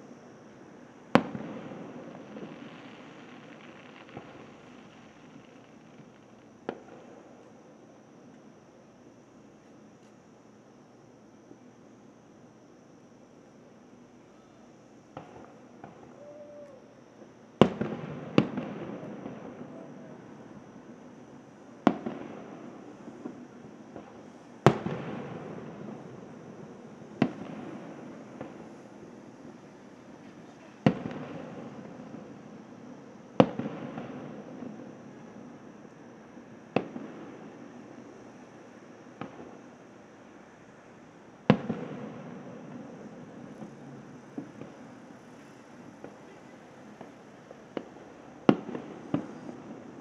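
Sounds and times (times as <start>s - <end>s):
fireworks bursting with echo: 0.9s - 7.8s, 15.1s - 16.9s, 17.6s - 50.0s.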